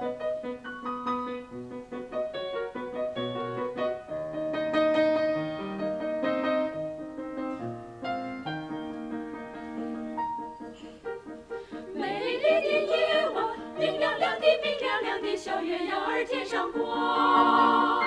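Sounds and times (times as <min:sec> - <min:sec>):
grand piano playing: 0:00.0 - 0:18.0.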